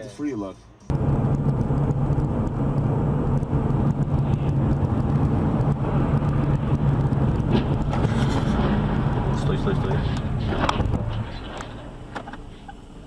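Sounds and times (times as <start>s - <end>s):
car engine and road noise: 0.7s - 13.0s.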